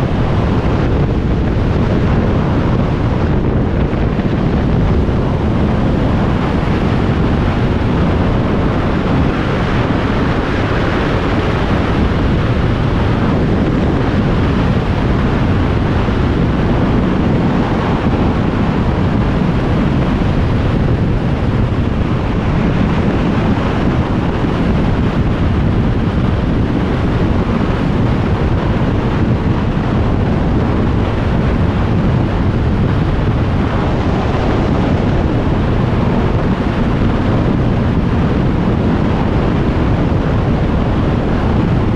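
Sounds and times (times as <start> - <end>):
wind noise on microphone: 0.0 - 41.9.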